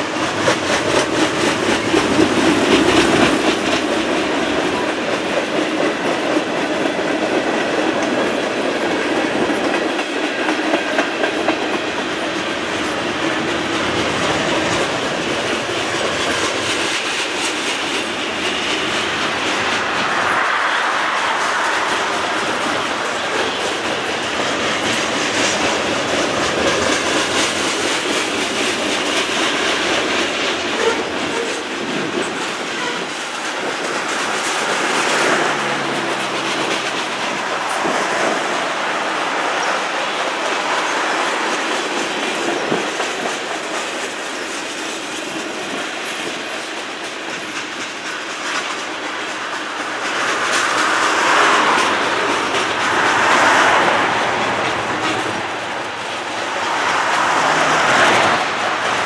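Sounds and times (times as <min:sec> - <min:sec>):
continuous train rumble: 0:00.0 - 0:59.0
train wheels clattering over rail joints: 0:00.0 - 0:59.0.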